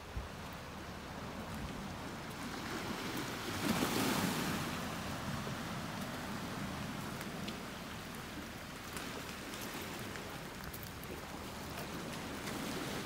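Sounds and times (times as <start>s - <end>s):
small waves on pebble shore: 0.3s - 13.0s.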